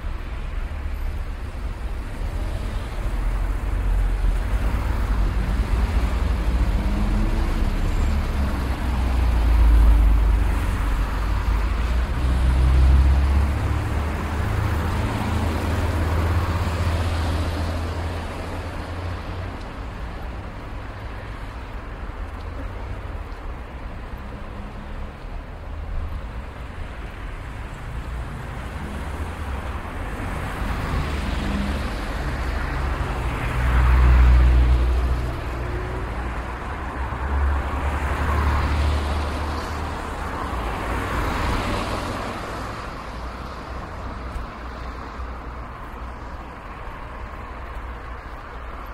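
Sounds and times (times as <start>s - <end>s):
cars passing: 0.0s - 48.9s
low traffic rumble: 0.0s - 48.9s.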